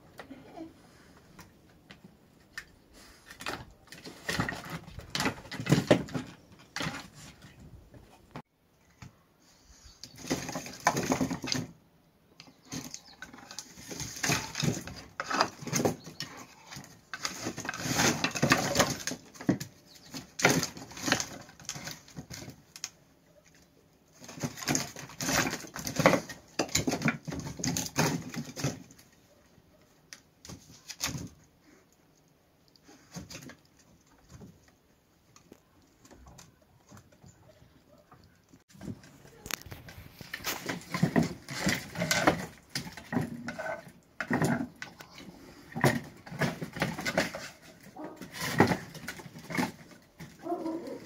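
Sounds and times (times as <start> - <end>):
firewood knocking and scraping: 1.4 - 8.4, 10.0 - 11.8, 12.4 - 23.0, 24.1 - 29.4, 32.8 - 51.0.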